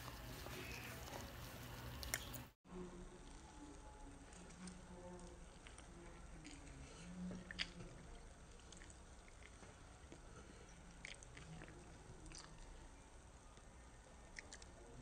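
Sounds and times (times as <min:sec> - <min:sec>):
child chewing: 0:00.0 - 0:02.6, 0:03.2 - 0:15.0.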